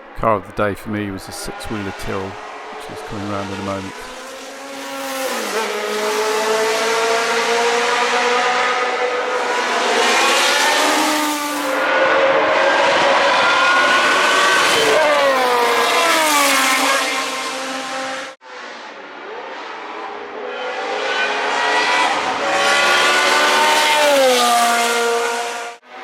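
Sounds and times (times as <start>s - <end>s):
racing car engine: 0.0s - 26.0s.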